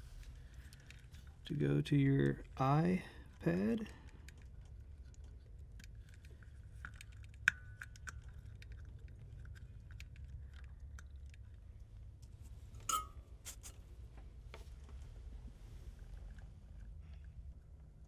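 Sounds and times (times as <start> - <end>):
wires and parts clicking: 0.0 - 15.2
steady low hum: 0.0 - 18.0.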